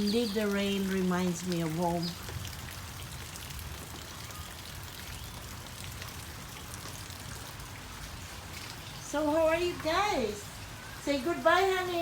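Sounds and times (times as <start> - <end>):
raindrops ticking on surfaces: 0.0 - 12.0
steady rain: 0.0 - 12.0.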